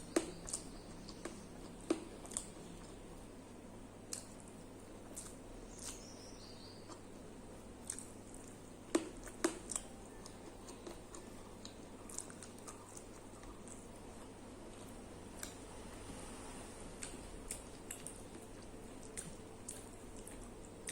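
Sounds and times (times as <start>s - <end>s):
faint steady hum: 0.0s - 20.9s
soft chewing: 0.0s - 20.9s.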